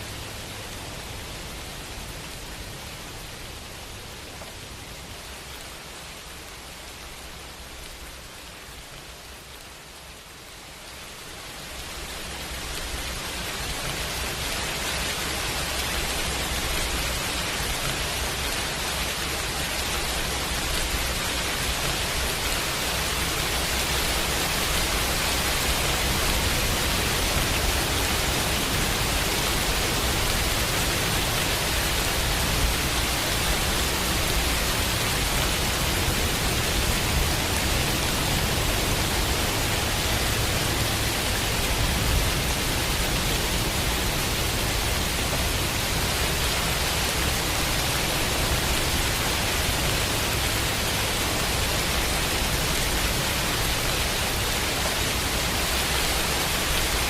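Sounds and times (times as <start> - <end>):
rain hiss: 0.0 - 57.0
white noise: 0.0 - 57.0.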